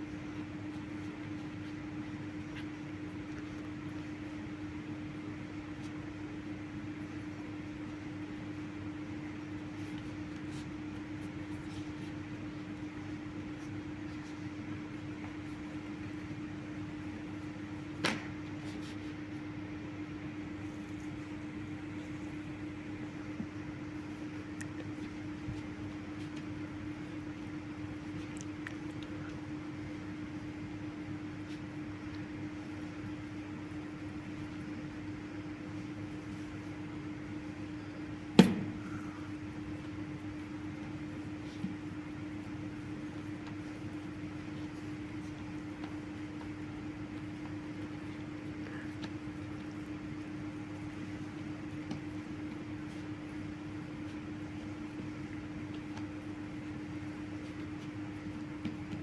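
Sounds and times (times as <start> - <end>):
mechanical hum with tone: 0.0 - 59.0.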